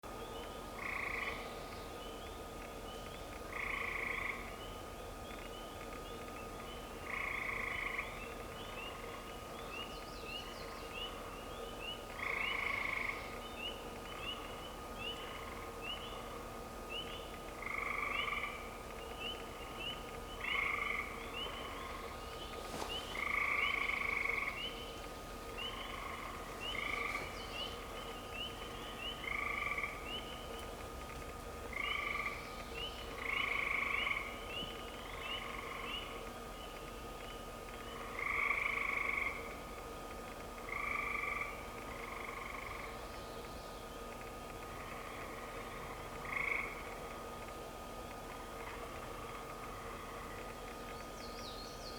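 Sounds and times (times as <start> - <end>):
frogs peeping: 5.3 - 51.9.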